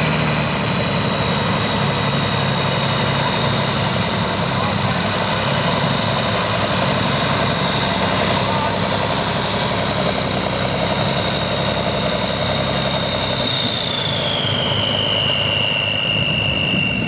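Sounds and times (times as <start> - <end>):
high whine: 0.0 - 17.0
truck engine at low revs: 0.0 - 17.0.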